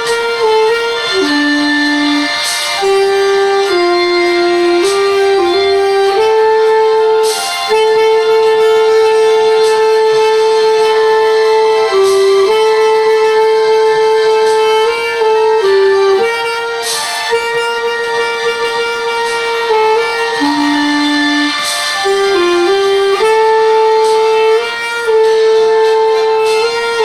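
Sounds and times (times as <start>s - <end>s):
clarinet playing slow melody: 0.0s - 27.0s.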